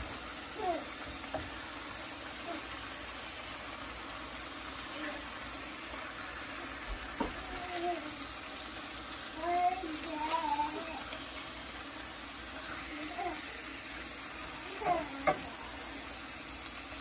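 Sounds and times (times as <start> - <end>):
chicken sizzling in a skillet: 0.0 - 17.0.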